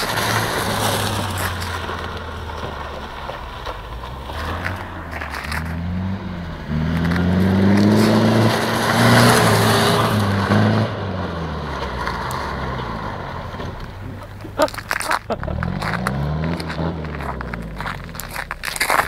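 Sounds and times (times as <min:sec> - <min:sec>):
off-road engine revving: 0:00.0 - 0:19.0
wheels spinning on snow: 0:00.0 - 0:19.0.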